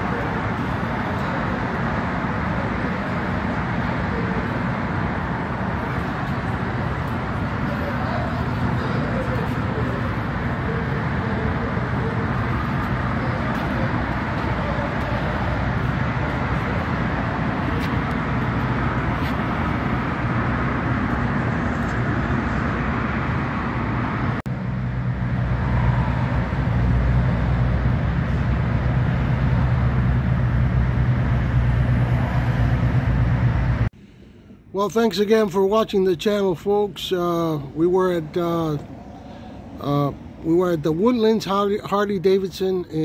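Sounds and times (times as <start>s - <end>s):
engine humming: 0.0s - 34.8s
traffic: 0.0s - 43.0s.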